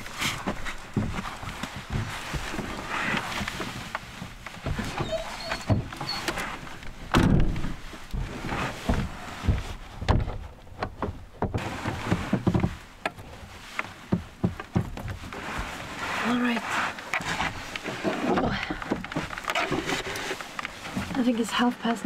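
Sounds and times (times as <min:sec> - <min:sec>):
knocks and thumps of handling gear: 0:00.0 - 0:15.9, 0:16.9 - 0:21.4.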